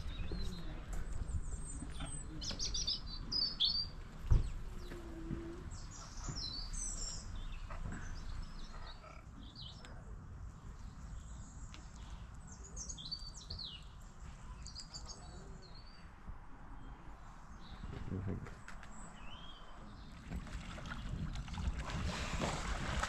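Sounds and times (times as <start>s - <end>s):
small birds chirping: 0.0s - 21.3s.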